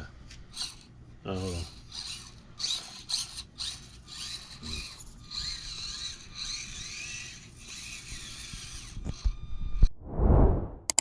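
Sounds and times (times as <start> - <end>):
toy truck motor whirring: 0.5 - 9.6.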